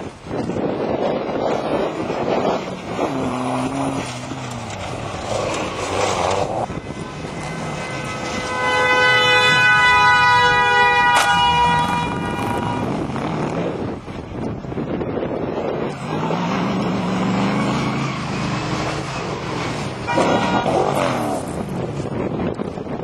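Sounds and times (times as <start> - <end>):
off-road vehicle engines running hard: 0.0 - 23.0.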